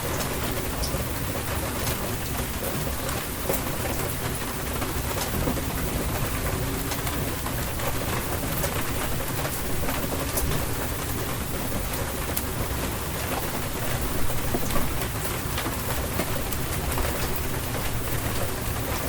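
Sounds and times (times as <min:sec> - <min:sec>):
rain hissing: 0:00.0 - 0:19.0
raindrops ticking: 0:00.0 - 0:19.0.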